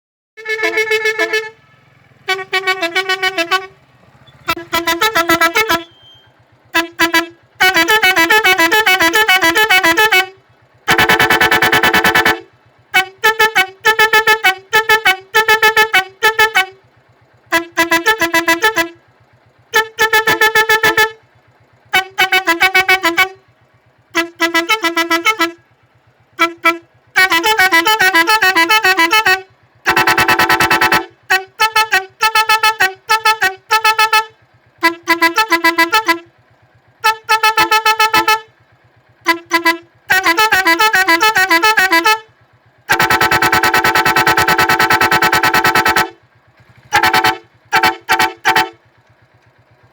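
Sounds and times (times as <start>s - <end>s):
musical air horn: 0.4s - 23.5s, 24.1s - 25.6s, 26.4s - 48.9s.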